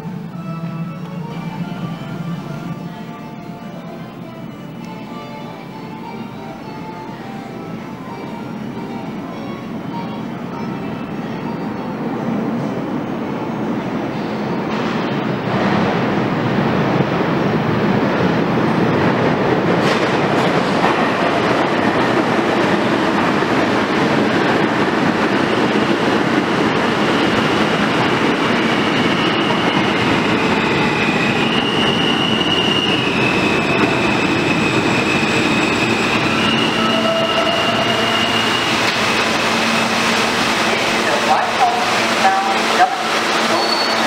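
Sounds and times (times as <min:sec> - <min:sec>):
subway train rumbling on rails: 0:00.0 - 0:44.0.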